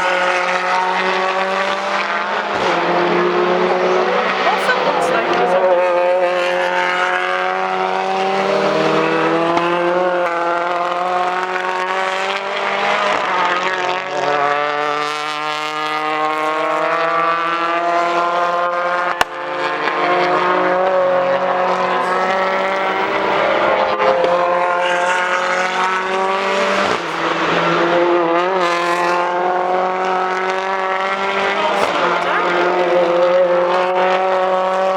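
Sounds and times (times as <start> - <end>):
race car engines accelerating: 0.0 - 34.9.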